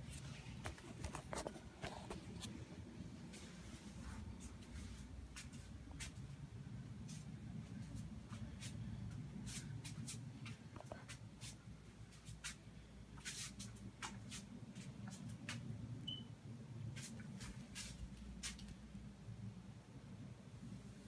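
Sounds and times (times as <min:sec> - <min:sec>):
steady low rumble: 0:01.5 - 0:21.0.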